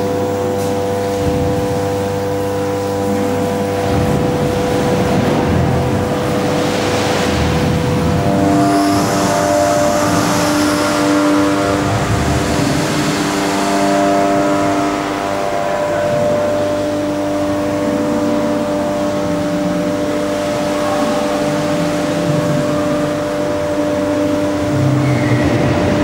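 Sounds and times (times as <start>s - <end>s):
hydraulic machine humming: 0.0s - 26.0s.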